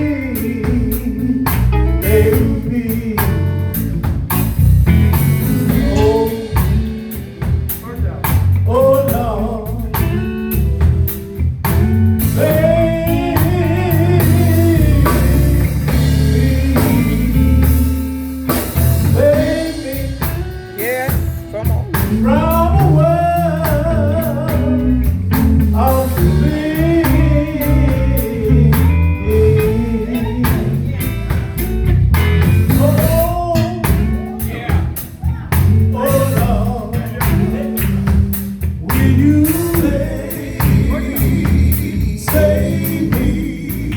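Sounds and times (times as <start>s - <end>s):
bass: 0.0s - 43.9s
drums: 0.0s - 43.9s
electric guitar: 0.0s - 43.9s
gospel group singing: 0.0s - 43.9s.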